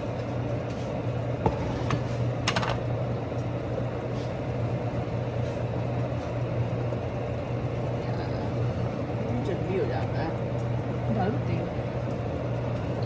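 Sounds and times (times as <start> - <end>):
kitchen appliance humming: 0.0 - 13.0.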